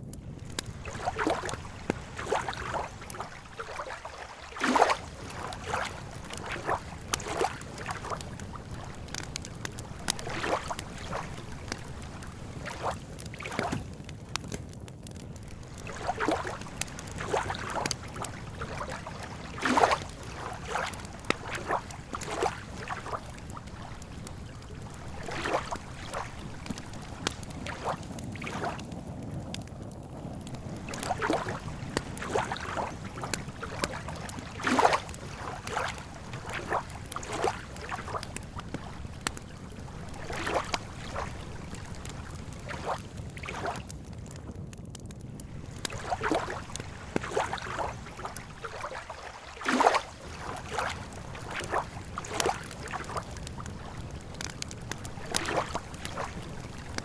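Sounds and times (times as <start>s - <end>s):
campfire crackling and popping: 0.0s - 57.0s
lake water lapping: 0.3s - 14.6s, 15.2s - 29.2s, 30.1s - 43.9s, 45.4s - 57.0s.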